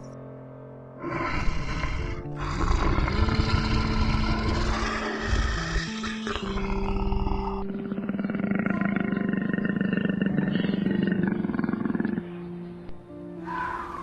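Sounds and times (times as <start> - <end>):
background music: 0.0 - 14.0
wild animal roaring: 1.0 - 12.5.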